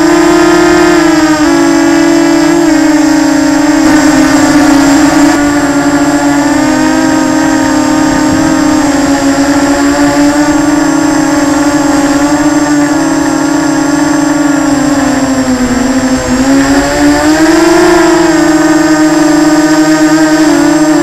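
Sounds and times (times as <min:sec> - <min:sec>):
quadcopter propellers buzzing: 0:00.0 - 0:21.0.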